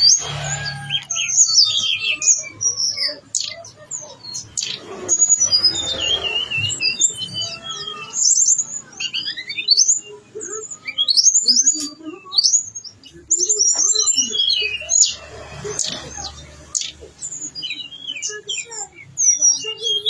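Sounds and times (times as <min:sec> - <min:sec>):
songbird singing varied song: 0:00.0 - 0:20.0.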